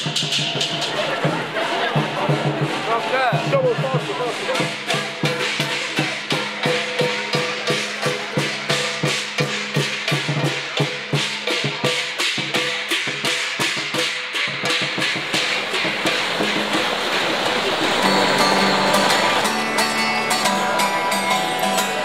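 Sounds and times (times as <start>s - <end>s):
wood block percussion beat: 0.0s - 22.0s.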